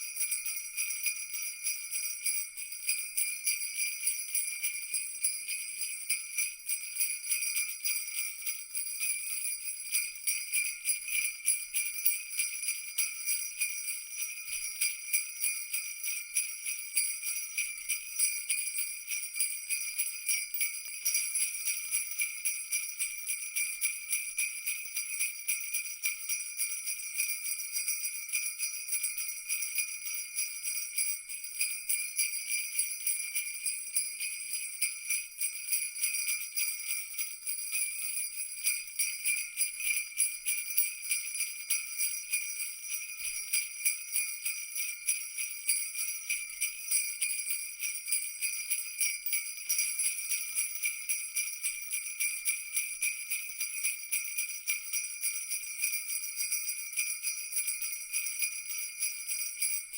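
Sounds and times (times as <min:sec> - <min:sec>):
jingle bells shaken: 0:00.0 - 0:59.9.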